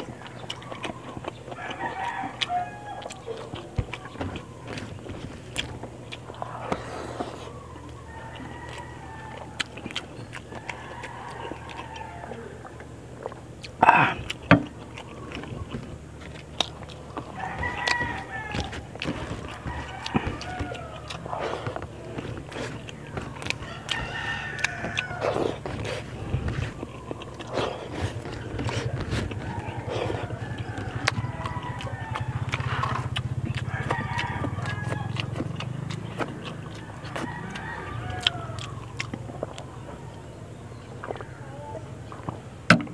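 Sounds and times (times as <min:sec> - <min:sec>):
chickens clucking: 0:00.0 - 0:42.9
eating clicks: 0:00.0 - 0:42.9
wet chewing and lip-smacking: 0:00.0 - 0:42.9
rooster crowing: 0:00.2 - 0:14.3, 0:15.0 - 0:40.5
low engine hum: 0:03.2 - 0:42.9.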